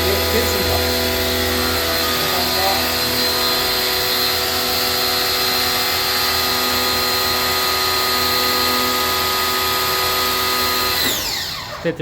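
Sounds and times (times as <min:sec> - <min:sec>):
machine motor humming and whining: 0:00.0 - 0:12.0.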